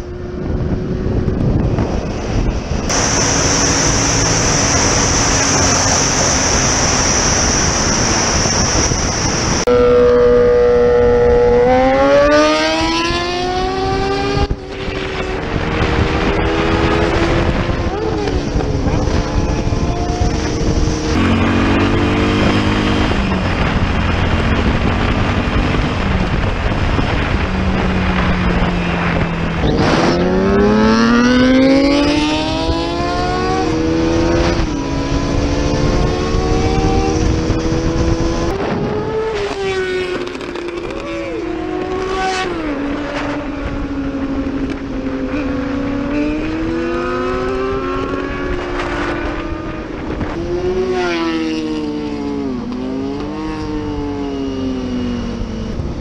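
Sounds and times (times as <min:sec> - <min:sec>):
motorcycle engines revving: 0:00.0 - 0:56.0
wind noise on microphone: 0:00.0 - 0:56.0.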